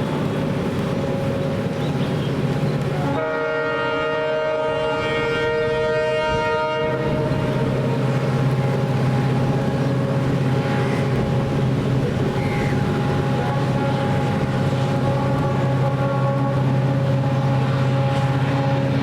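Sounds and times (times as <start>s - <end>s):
train running hum: 0.0s - 19.0s
locomotive air horn blast: 1.9s - 19.0s.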